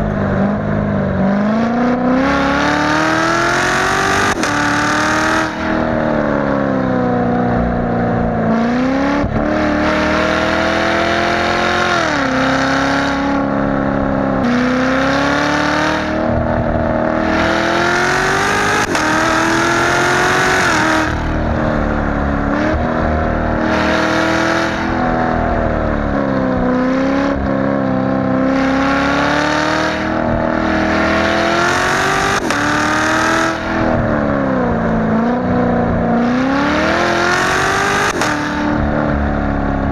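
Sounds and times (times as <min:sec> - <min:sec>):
car engine at highway speed: 0:00.0 - 0:39.9.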